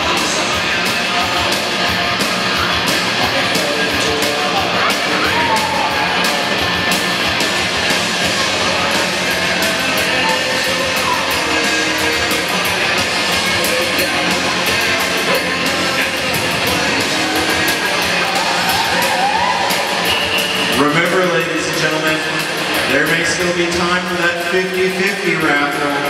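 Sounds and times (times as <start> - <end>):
rock music over a pa system: 0.0 - 26.0.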